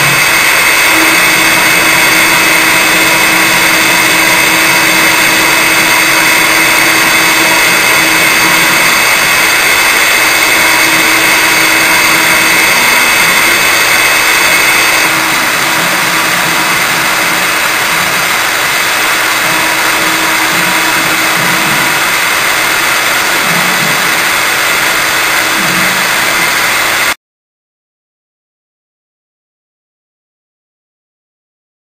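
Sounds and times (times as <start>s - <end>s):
router spindle whining: 0.0s - 27.2s.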